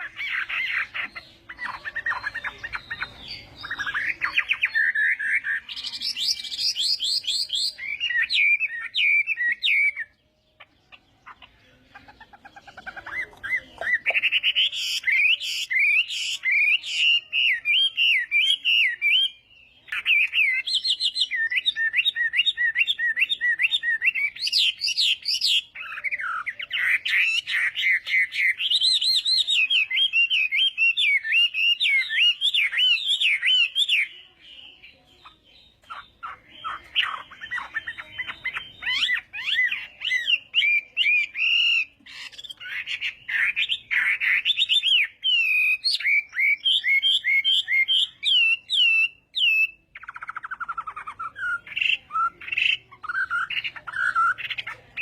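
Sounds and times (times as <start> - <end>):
bird singing whistled trills: 0.0 - 11.4, 12.7 - 55.0.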